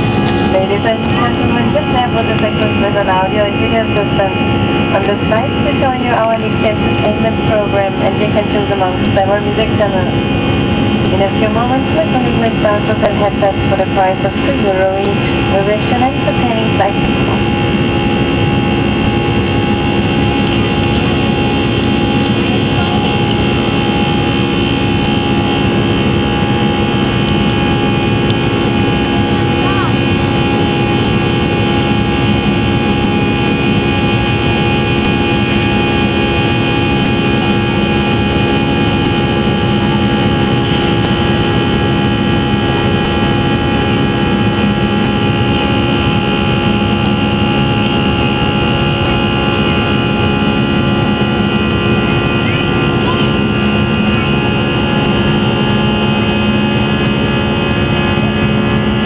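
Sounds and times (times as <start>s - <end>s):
jet engine noise: 0.0s - 59.0s
steady hum-like tones: 0.0s - 59.0s.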